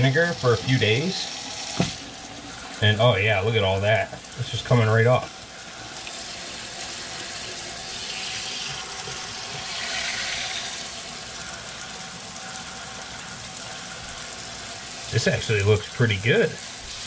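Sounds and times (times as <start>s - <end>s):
faucet water spraying on metal: 0.0s - 17.0s.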